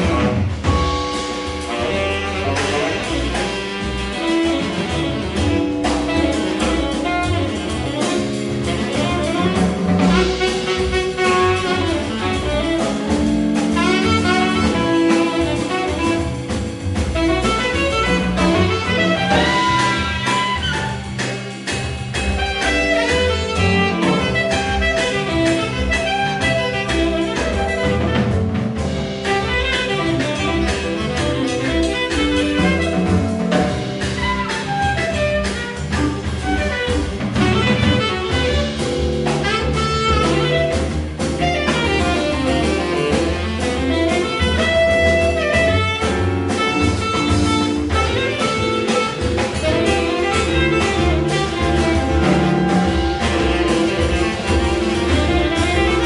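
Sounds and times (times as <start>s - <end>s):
double bass: 0.0s - 56.0s
drum kit: 0.0s - 56.0s
electric piano: 0.0s - 56.0s
saxophone melody: 0.0s - 56.0s.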